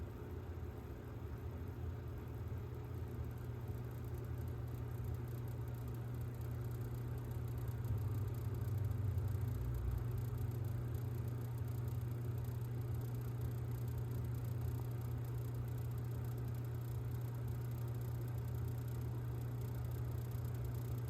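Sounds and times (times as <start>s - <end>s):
power supply low hum: 0.0s - 21.0s.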